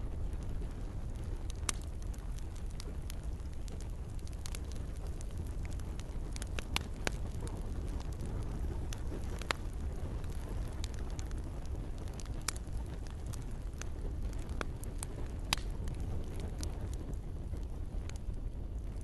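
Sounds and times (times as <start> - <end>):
campfire crackling and popping: 0.0 - 19.0
low rumble of burning wood: 0.0 - 19.0.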